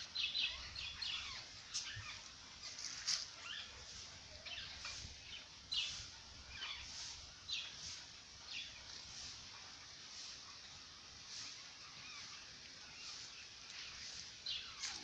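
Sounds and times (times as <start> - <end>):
birds chirping: 0.0 - 15.0
faint background noise: 0.0 - 15.0.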